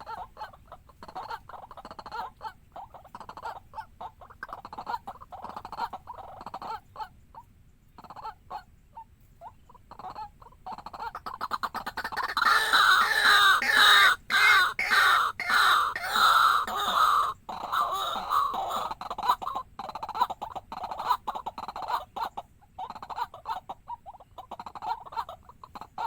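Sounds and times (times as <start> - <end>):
waterhen harsh calling: 0.0 - 7.1, 8.0 - 26.0
waterhen clucking: 0.0 - 26.0.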